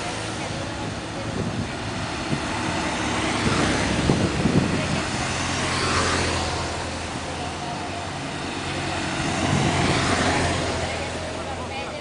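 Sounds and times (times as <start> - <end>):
motorcycles passing by: 0.0 - 12.0.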